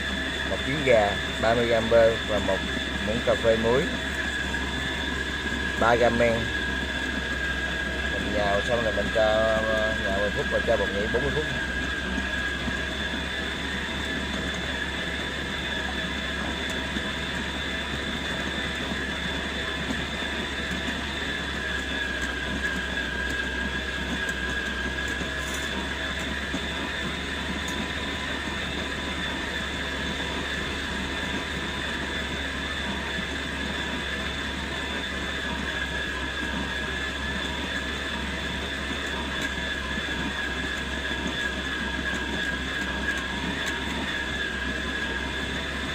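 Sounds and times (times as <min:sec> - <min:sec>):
dough mixer motor whining: 0:00.0 - 0:45.9.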